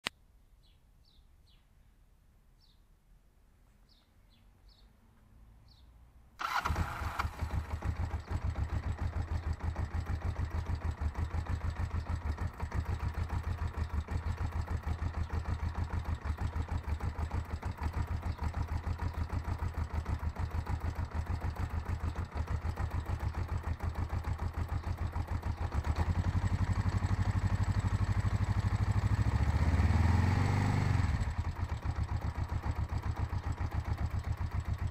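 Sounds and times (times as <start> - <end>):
motorcycle engine idling: 6.4 - 34.9.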